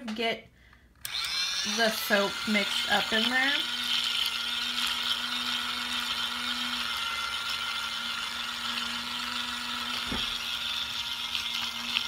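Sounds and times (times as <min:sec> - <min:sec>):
small motor humming: 0:01.0 - 0:12.0.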